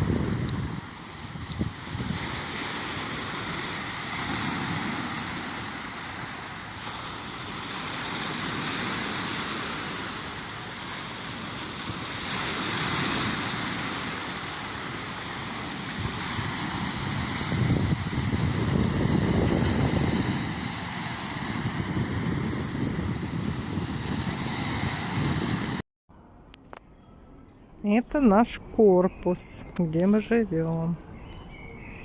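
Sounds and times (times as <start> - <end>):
sea surf washing on shore: 0.0 - 25.8.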